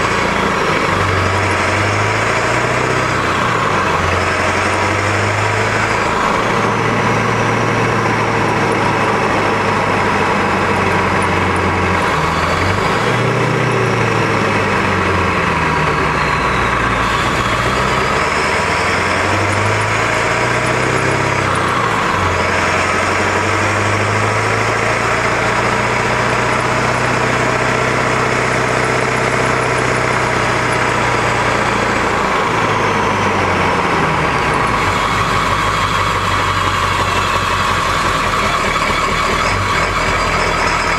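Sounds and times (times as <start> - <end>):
diesel truck engine driving: 0.0 - 40.9
road and tyre noise: 0.0 - 40.9.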